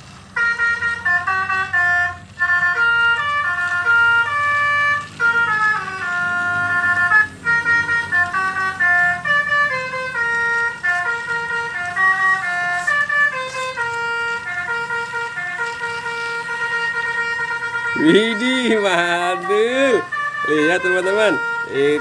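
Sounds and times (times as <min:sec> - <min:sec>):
musical horn playing a tune: 0:00.3 - 0:22.0.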